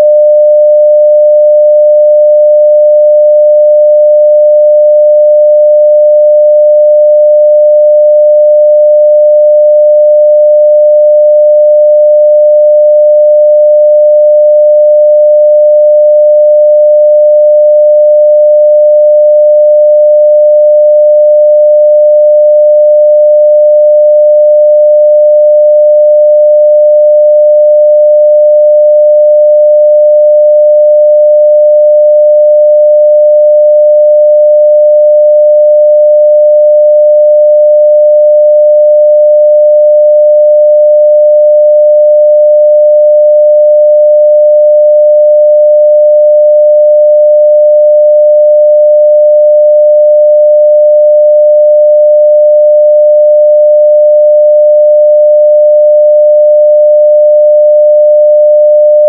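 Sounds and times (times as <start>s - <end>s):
sine wave test tone: 0.0s - 59.0s.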